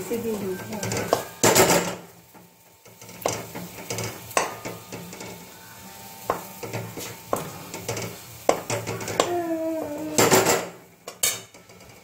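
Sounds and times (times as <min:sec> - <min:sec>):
syrup sizzling: 0:00.0 - 0:12.0.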